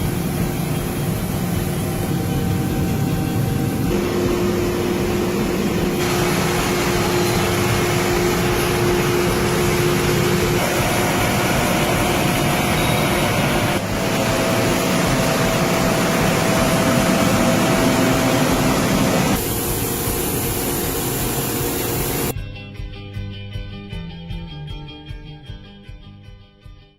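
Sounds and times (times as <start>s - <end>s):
faint machine whining tones: 0.0s - 22.3s
cnc machine hiss and hum: 0.0s - 22.4s
music: 0.0s - 26.9s.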